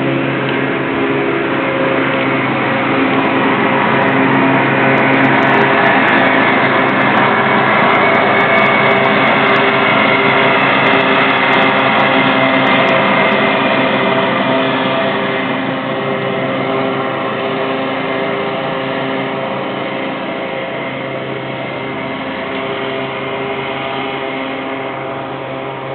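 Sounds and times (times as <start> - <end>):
machinery humming: 0.0 - 25.9.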